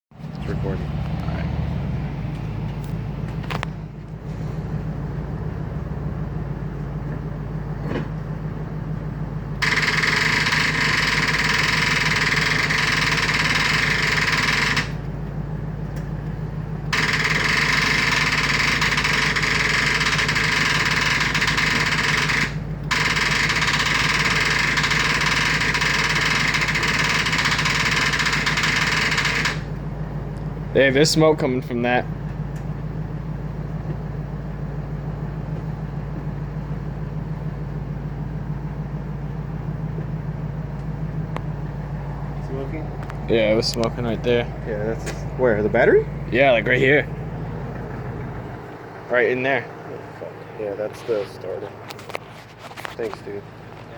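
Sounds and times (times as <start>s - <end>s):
steady low hum: 0.2s - 53.9s
starter motor cranking engine: 7.1s - 53.9s.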